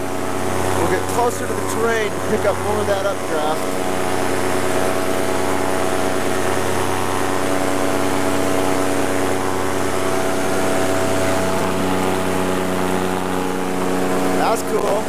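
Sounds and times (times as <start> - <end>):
paramotor engine and propeller: 0.0 - 15.0.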